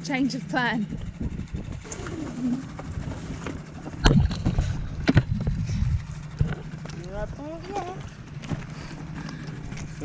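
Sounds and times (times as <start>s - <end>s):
low falling hum: 0.0s - 10.0s
low rumble: 0.3s - 10.0s.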